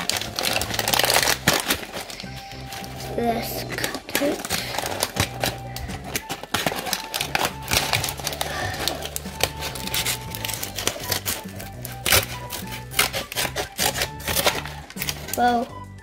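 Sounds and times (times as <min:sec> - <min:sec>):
background music with bass line: 0:00.0 - 0:04.0, 0:04.6 - 0:16.0
plastic wrapper crackling: 0:00.0 - 0:16.0.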